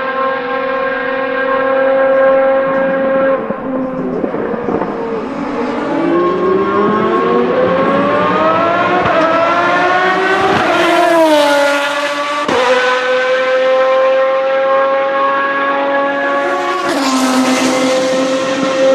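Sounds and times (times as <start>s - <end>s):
race car engine accelerating: 0.0s - 18.9s.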